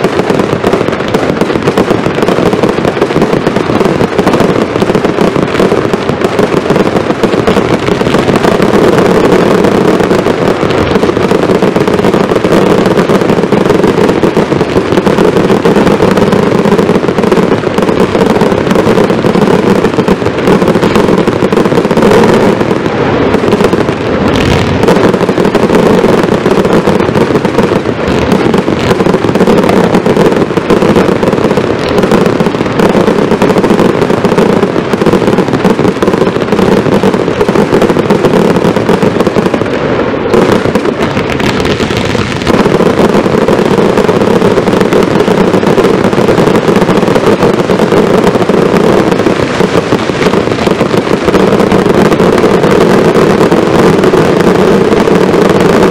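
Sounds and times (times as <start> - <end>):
fireworks bangs and crackle: 0.0 - 55.9
heavy firework bangs: 0.0 - 55.9.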